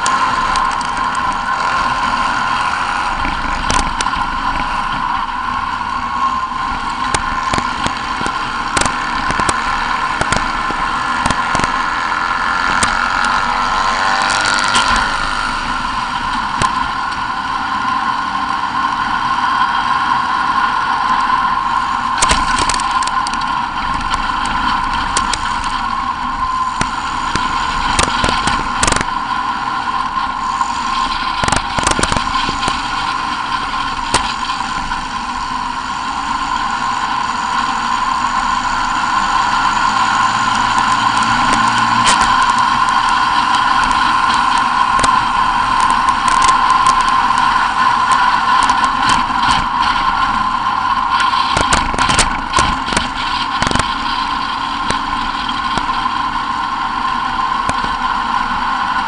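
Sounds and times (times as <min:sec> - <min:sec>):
buggy engine running hard: 0:00.0 - 0:59.0.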